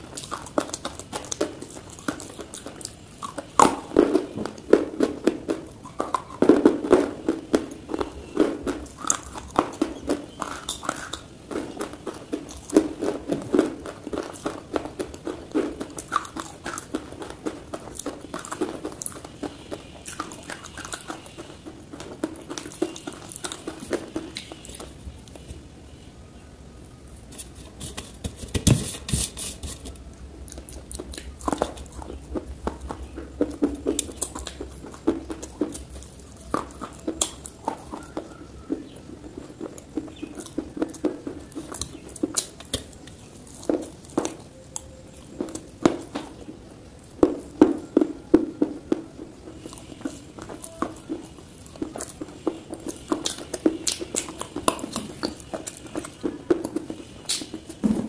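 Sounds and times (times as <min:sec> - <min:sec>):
crunching and chewing dry clay: 0:00.0 - 0:26.0, 0:27.1 - 0:57.9.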